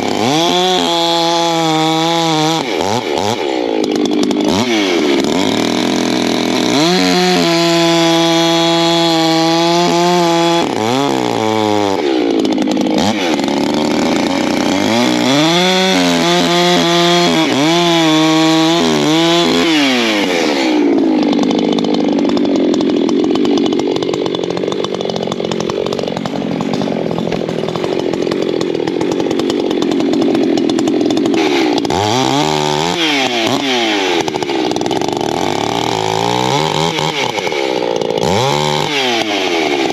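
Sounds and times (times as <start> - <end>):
chainsaw cutting firewood: 0.0 - 39.9.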